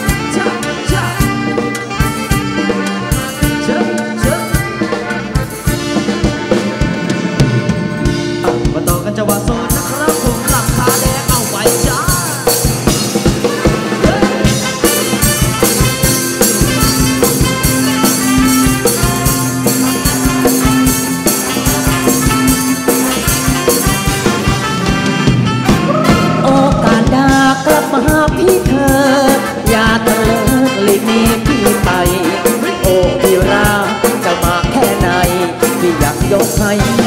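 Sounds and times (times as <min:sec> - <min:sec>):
live band playing: 0:00.0 - 0:37.0
steady drum beat: 0:00.0 - 0:37.0.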